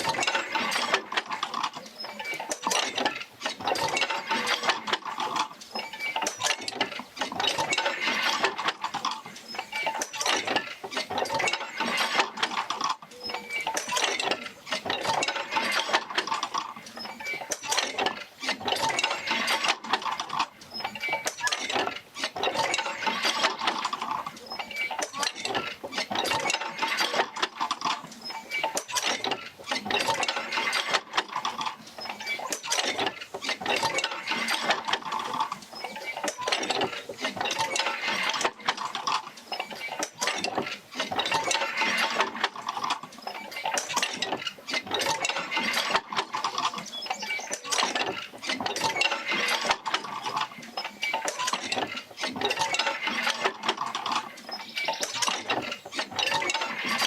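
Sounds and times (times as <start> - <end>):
wheel mechanism clicking and clanking: 0.0 - 57.0.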